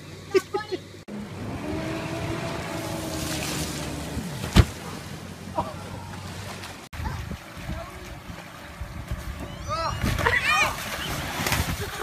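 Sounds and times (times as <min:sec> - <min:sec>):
motorboat engine running: 0:00.0 - 0:12.0
rushing water: 0:00.0 - 0:12.0
wind: 0:00.0 - 0:12.0.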